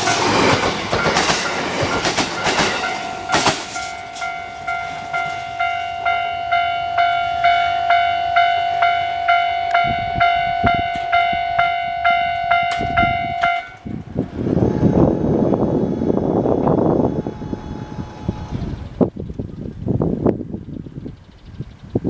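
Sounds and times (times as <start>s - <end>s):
passing train running noise: 0.0s - 22.0s.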